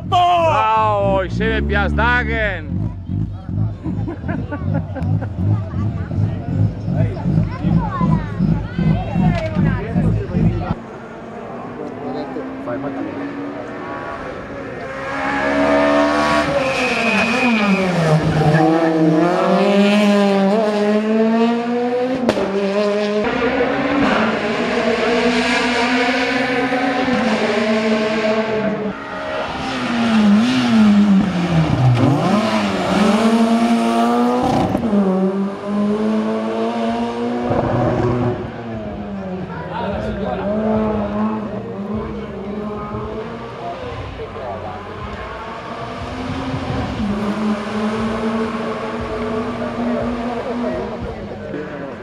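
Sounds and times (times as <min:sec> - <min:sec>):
rally car engines at full throttle: 0:00.0 - 0:52.0.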